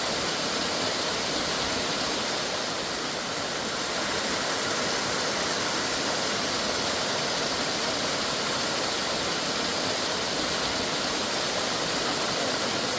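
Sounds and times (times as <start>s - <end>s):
stream water rushing: 0.0s - 12.9s.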